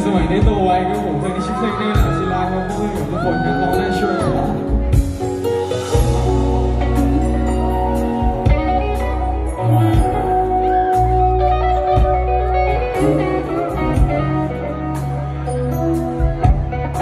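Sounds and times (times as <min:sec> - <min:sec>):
bass guitar: 0:00.0 - 0:17.0
electric guitar: 0:00.0 - 0:17.0.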